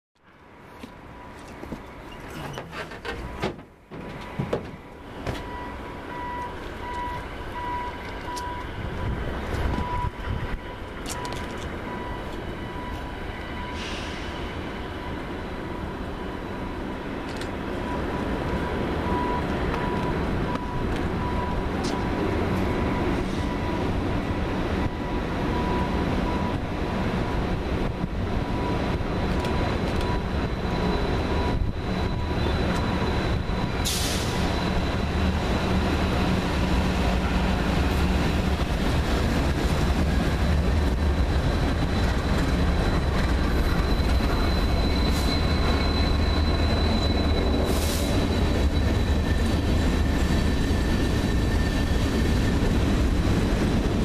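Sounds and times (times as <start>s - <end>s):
diesel locomotive engine rumble: 0.2s - 54.0s.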